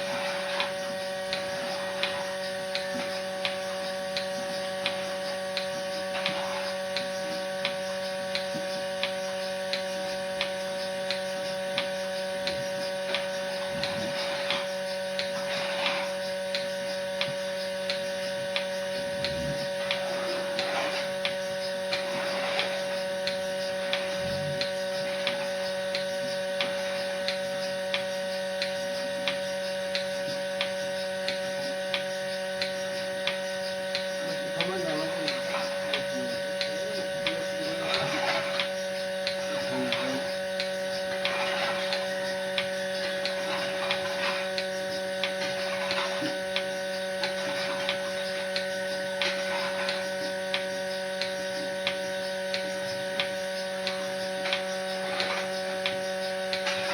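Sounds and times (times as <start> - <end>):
machine electrical hum: 0.0 - 56.9.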